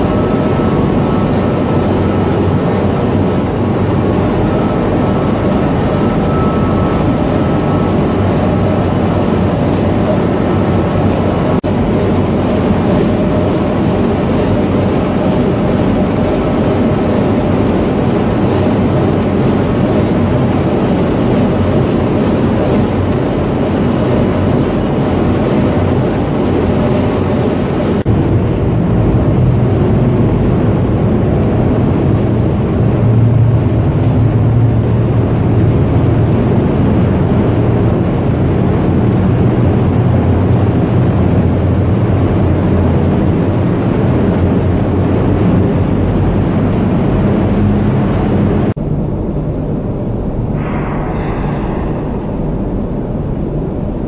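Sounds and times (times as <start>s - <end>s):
dull drone: 0.0s - 54.0s
propeller shaft deep hum: 0.0s - 54.0s
ship engine room machinery: 0.0s - 54.0s.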